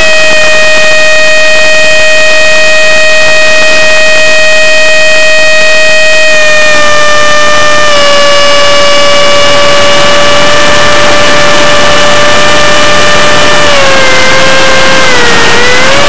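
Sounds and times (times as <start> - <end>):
electric ducted fan whine: 0.0 - 16.0.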